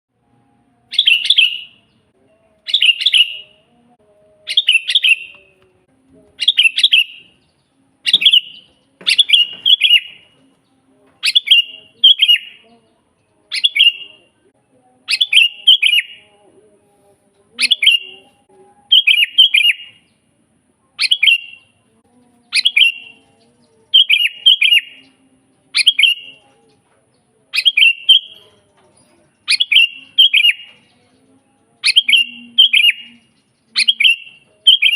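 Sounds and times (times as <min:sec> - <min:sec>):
bulbul singing short phrases: 0:00.8 - 0:20.1, 0:20.9 - 0:28.7, 0:29.4 - 0:34.9.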